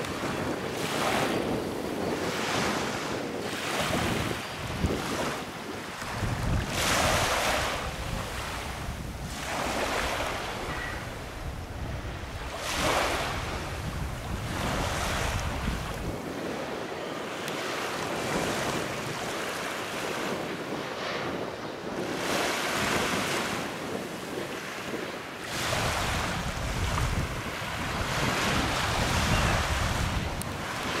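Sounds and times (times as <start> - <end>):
sea waves lapping on sand: 0.0 - 31.0
wind rumble on microphone: 0.0 - 31.0.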